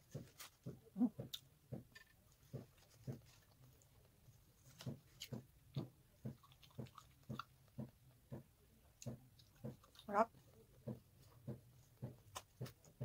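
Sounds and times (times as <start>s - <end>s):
person chewing fried chicken: 2.4s - 13.0s.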